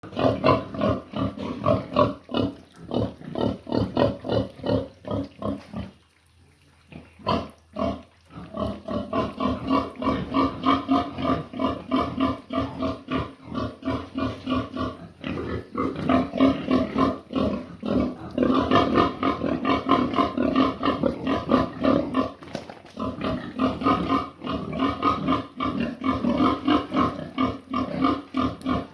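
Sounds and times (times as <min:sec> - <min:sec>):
pigs grunting and squealing: 0:00.0 - 0:28.9.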